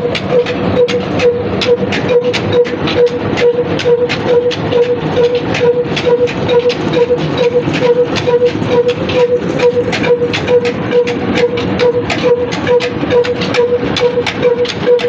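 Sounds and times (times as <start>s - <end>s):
heavy diesel engine knocking: 0.0s - 15.0s
pulsing machine whine: 0.0s - 15.0s.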